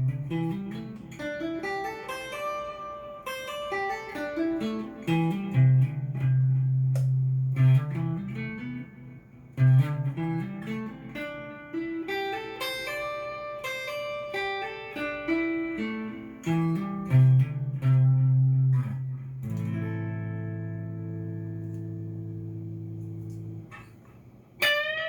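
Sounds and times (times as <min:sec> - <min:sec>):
electric guitar notes and chord: 0:00.0 - 0:25.0.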